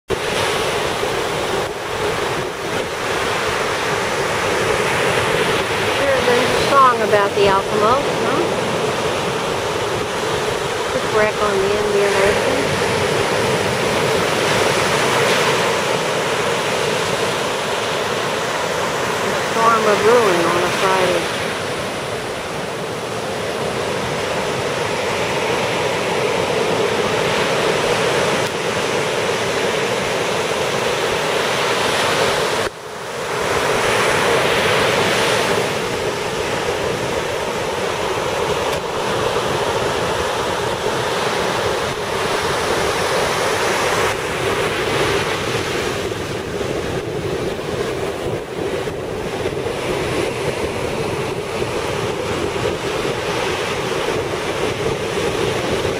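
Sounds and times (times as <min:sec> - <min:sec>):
surf breaking on sandy beach: 0:00.1 - 0:55.9
wind buffeting microphone: 0:00.1 - 0:55.9.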